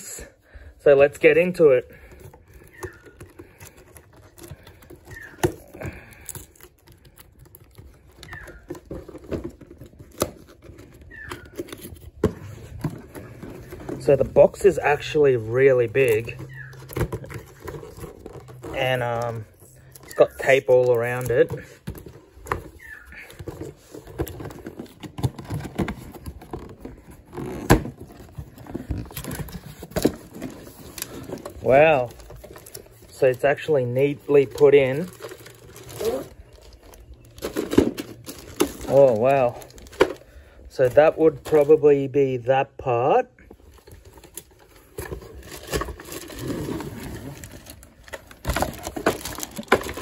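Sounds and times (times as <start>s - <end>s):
cardboard scraping and tearing: 1.2s - 40.2s, 43.7s - 50.0s.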